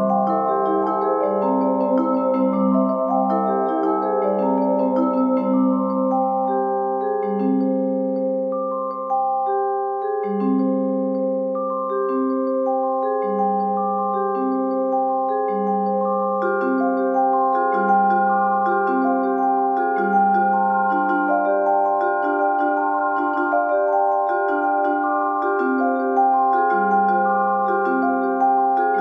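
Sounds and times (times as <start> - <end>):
vibraphone chords ringing: 0.0 - 29.0.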